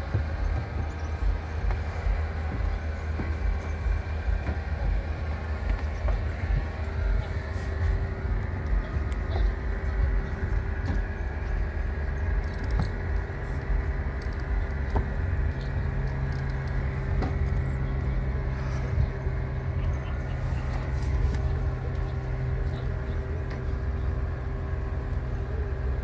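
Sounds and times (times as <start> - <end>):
boat engine drone: 0.0 - 26.0
deeper hum: 0.0 - 26.0.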